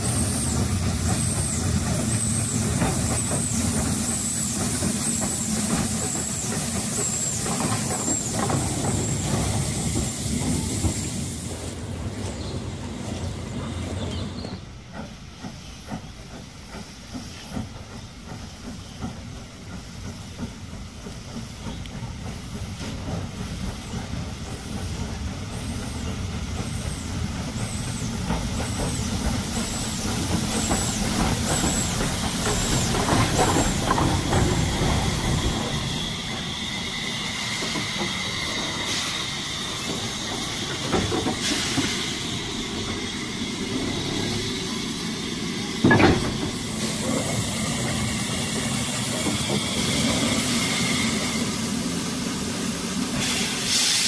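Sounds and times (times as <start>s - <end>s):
steam hissing: 0.0s - 12.2s, 12.8s - 54.0s
wheels rumbling on rails: 0.0s - 53.6s.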